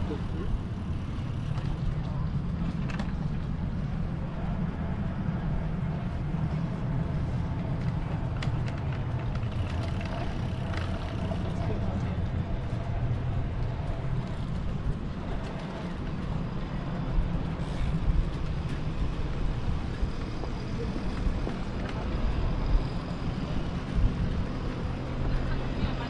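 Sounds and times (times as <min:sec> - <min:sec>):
passing traffic: 0:00.0 - 0:26.0
wind and road noise rumble: 0:00.0 - 0:26.0.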